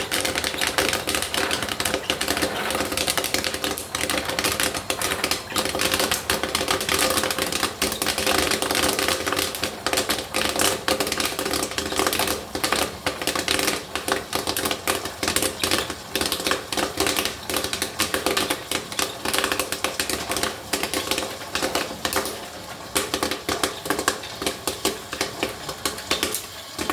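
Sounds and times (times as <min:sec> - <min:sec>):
popcorn kernels popping: 0:00.0 - 0:26.9
popcorn machine humming: 0:00.0 - 0:26.9.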